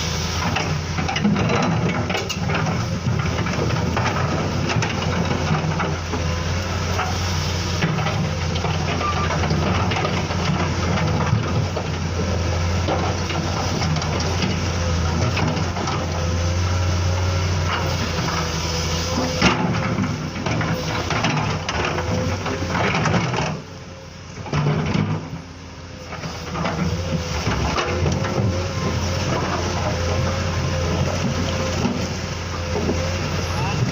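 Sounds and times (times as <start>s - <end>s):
low engine drone: 0.0s - 33.9s.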